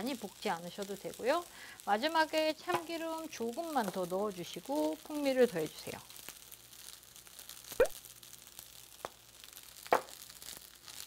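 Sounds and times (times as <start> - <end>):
rice rustling in a pan: 0.0 - 11.0.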